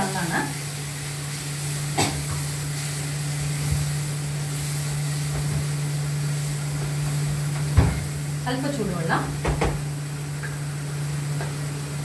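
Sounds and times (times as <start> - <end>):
pan hissing on stove: 0.0 - 12.0.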